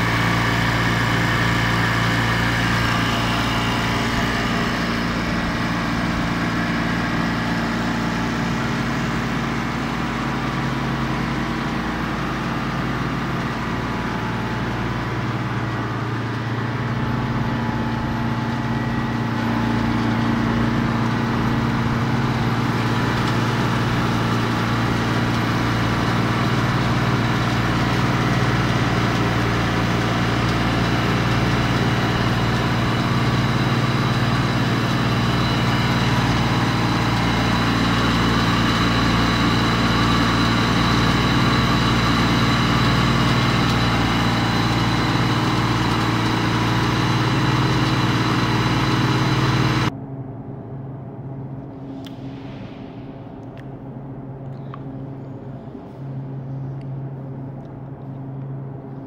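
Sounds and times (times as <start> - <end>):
compressor humming: 0.0 - 50.0.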